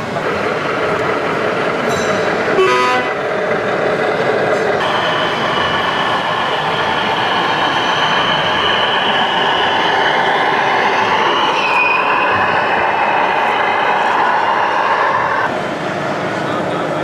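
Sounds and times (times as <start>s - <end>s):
hall background noise: 0.0s - 17.0s.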